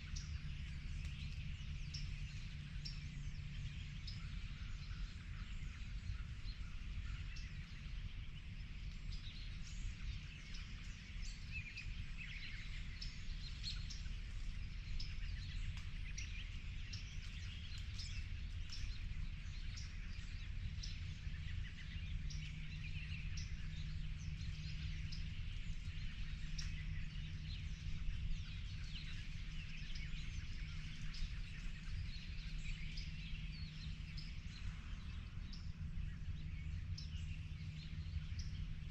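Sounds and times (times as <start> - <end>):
low steady hum: 0.0 - 38.9
songbirds chirping and trilling: 0.0 - 38.9
steady low rumble: 0.0 - 38.9.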